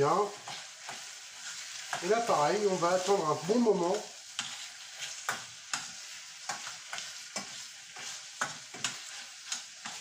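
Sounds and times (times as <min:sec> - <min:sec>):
shrimp sizzling in a pan: 0:00.0 - 0:10.0
spoon scraping against pan: 0:00.3 - 0:10.0.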